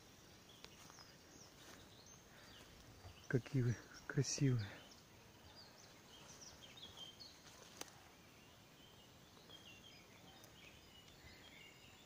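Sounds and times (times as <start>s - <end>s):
distant small birds chirping: 0.0s - 12.0s.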